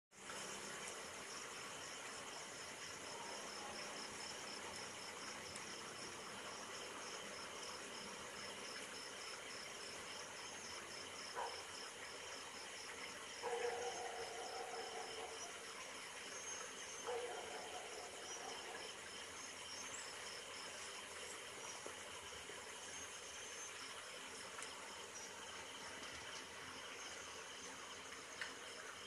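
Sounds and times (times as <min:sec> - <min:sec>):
night insects chirping: 0:00.2 - 0:29.0.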